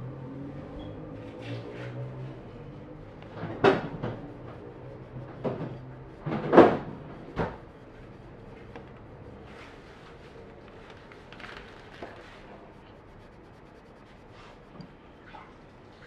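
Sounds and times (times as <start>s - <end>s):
cloth scrubbing metal: 1.6s - 14.9s
faint steady hum: 2.2s - 16.0s.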